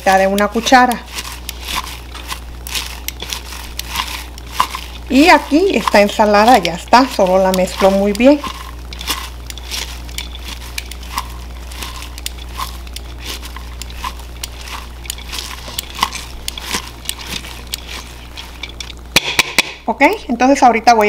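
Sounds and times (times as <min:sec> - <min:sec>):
cabbage rustling and crunching: 0:00.0 - 0:19.2
tongs clicking: 0:00.0 - 0:19.2.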